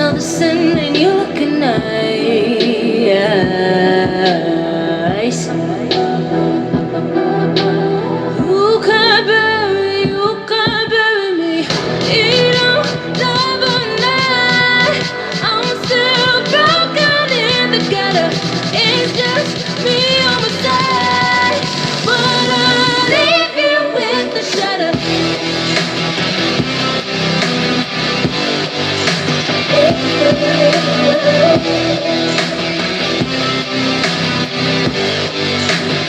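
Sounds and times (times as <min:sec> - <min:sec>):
pop song over speaker: 0:00.0 - 0:36.0.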